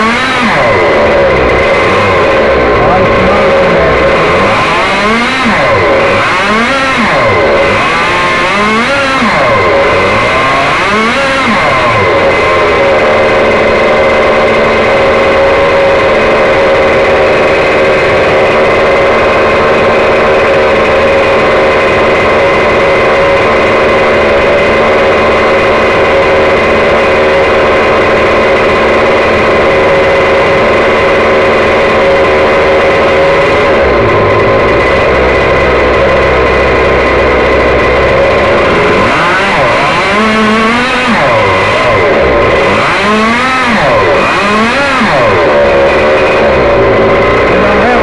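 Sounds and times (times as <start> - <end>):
model engine running loud: 0.0 - 48.0.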